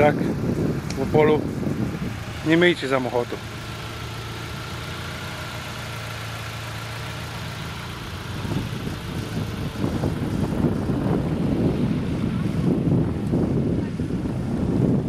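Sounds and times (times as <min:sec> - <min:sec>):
car engine idling: 0:00.0 - 0:15.0
wind buffeting microphone: 0:00.0 - 0:15.0.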